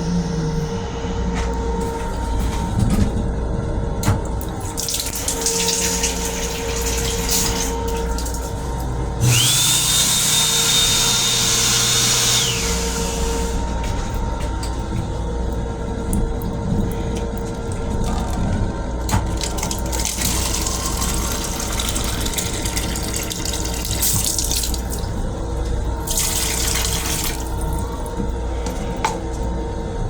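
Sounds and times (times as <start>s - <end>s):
toilet flushing with high whine: 0.0s - 30.0s.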